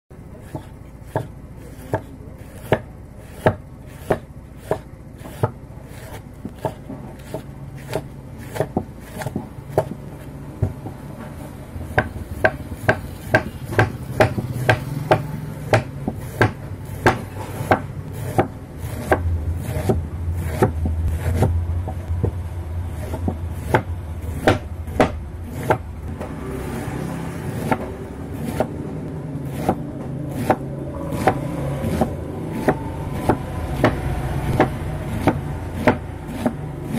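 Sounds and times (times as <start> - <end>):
low steady hum: 0.1 - 36.9
knife slicing cabbage: 0.3 - 21.6, 23.0 - 25.8, 26.6 - 28.8, 29.4 - 36.9.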